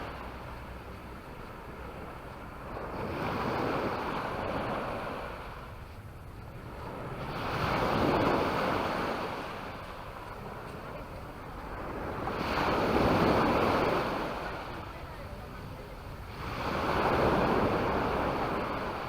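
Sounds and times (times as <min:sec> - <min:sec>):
sea waves washing onto beach: 0:00.0 - 0:19.0.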